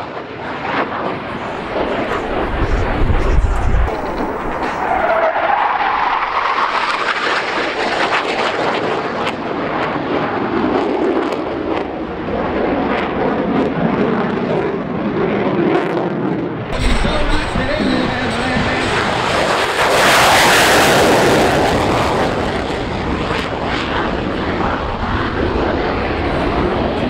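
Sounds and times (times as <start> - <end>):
military jet flying past: 0.0 - 27.0.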